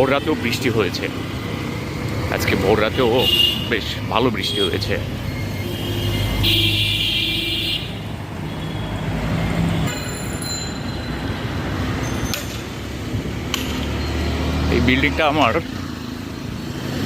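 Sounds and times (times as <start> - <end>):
road and vehicle noise: 0.0 - 17.0.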